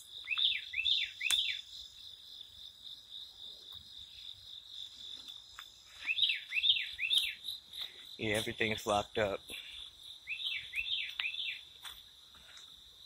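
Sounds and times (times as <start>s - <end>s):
bird chirping: 0.0s - 2.6s, 3.3s - 11.8s
insects trilling: 0.0s - 13.0s.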